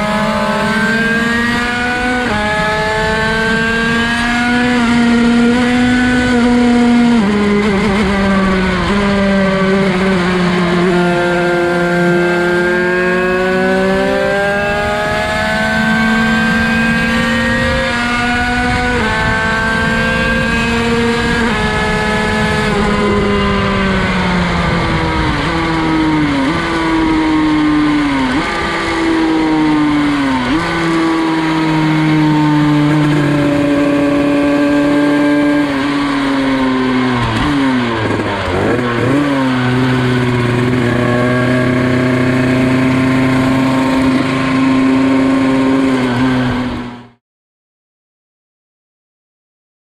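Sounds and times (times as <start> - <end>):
motorcycle engine revving: 0.0 - 47.2.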